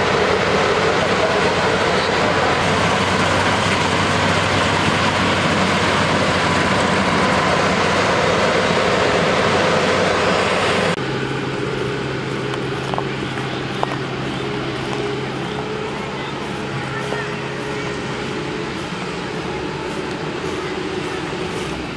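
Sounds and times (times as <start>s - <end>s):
combine harvester running: 0.0s - 21.9s.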